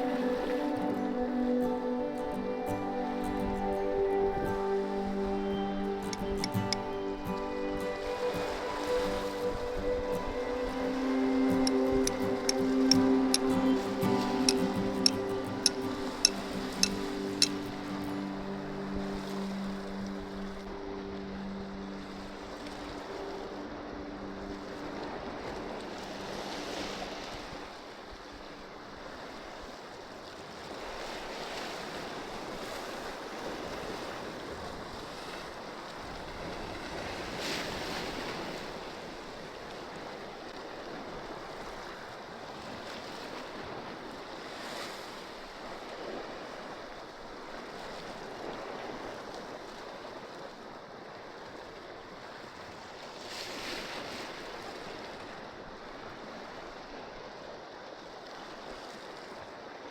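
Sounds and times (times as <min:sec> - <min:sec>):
sea waves washing against rocks: 0:00.0 - 0:59.9.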